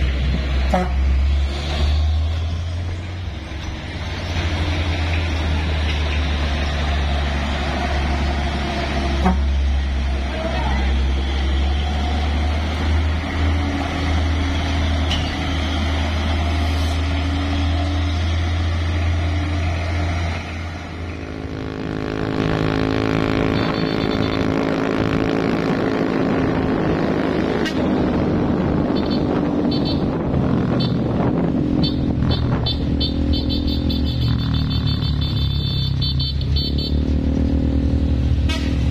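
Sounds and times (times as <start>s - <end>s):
truck diesel engine revving: 0.0s - 38.9s.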